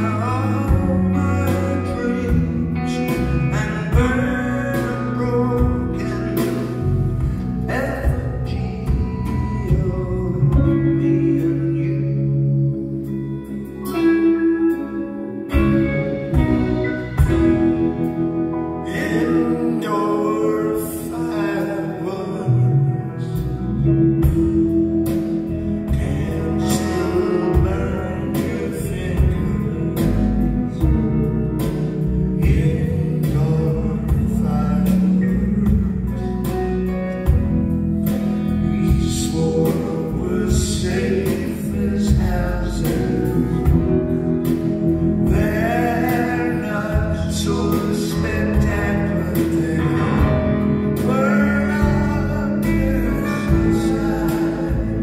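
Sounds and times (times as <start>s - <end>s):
drums: 0.0s - 22.2s, 23.2s - 55.0s
electric and acoustic guitars: 0.0s - 55.0s
man singing: 0.0s - 55.0s.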